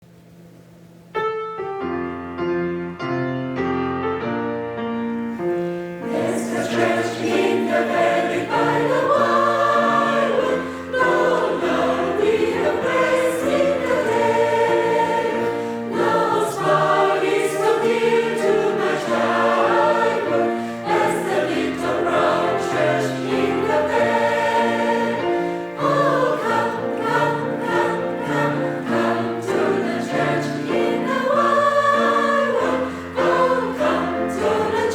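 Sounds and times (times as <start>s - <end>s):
choir singing: 6.0s - 34.9s.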